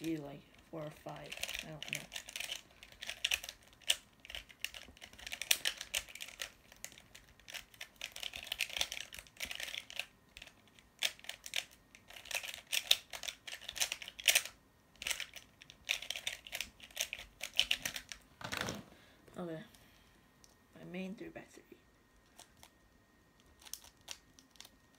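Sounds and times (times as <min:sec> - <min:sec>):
puzzle cube turning clicks: 0:00.1 - 0:18.7, 0:23.4 - 0:24.9.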